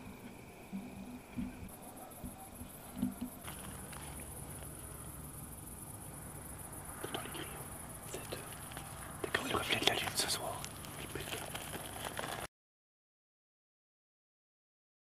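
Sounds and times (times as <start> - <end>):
crickets chirping: 0.0 - 12.5
faint rustles: 0.0 - 12.5.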